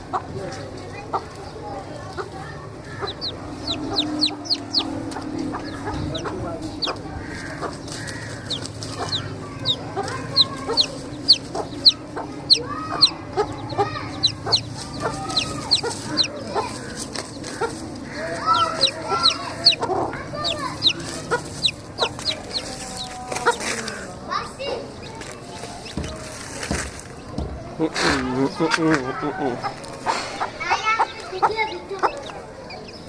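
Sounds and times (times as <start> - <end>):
hen clucking: 0.0 - 24.2, 28.0 - 33.0
chicks peeping: 0.0 - 33.0.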